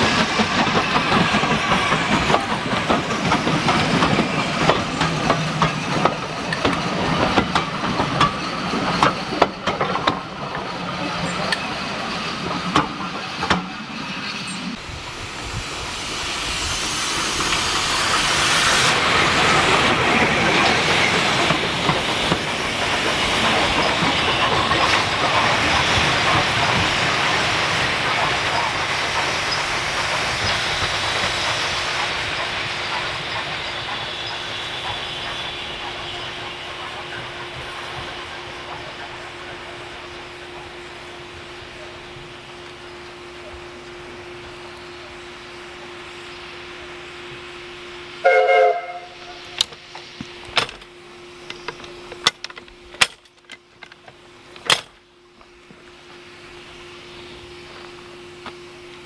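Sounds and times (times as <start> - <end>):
steam hissing: 0.0 - 52.2, 54.2 - 59.0
steam train low drone: 0.0 - 59.0.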